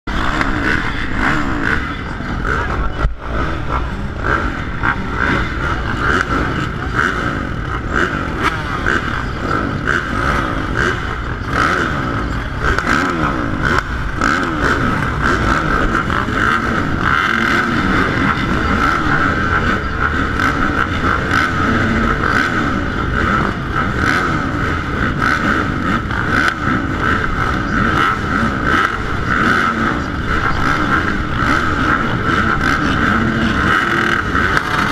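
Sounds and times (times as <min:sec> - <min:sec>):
motocross bikes revving: 0:00.1 - 0:34.9.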